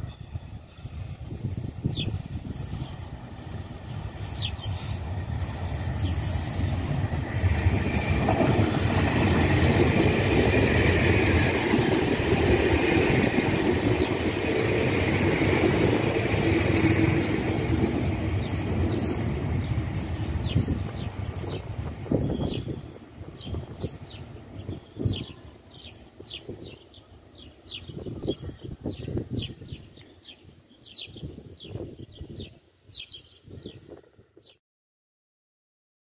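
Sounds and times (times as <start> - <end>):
high train whine: 0.0 - 30.6
train passing rumble: 0.0 - 32.6.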